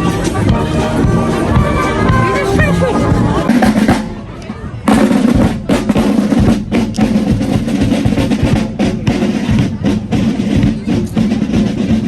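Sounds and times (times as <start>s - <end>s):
snare and bass drums beating: 0.0s - 4.2s, 4.9s - 12.0s
marching band sustained notes: 0.0s - 12.0s.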